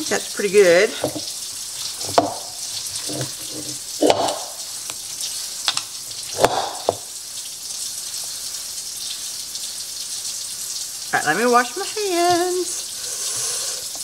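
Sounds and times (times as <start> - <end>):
steady hiss: 1.0 - 14.0.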